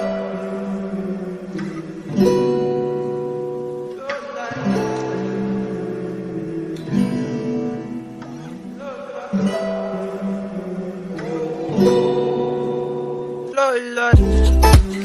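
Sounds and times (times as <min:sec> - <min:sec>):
guitar chords strummed: 0:00.0 - 0:15.0.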